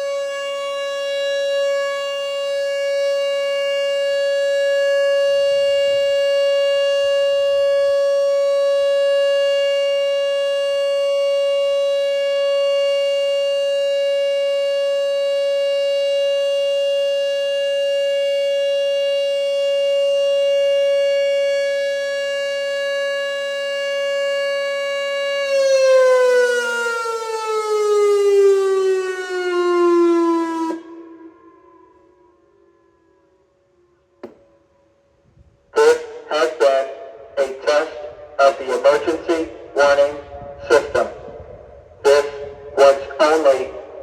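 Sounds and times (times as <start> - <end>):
warning siren steady tone: 0.0 - 44.0.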